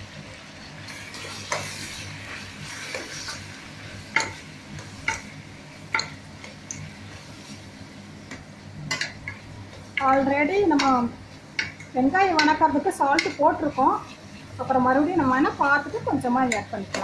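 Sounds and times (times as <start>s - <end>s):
frying sizzle: 0.0s - 17.0s
spoon stirring in a pan: 0.6s - 17.0s.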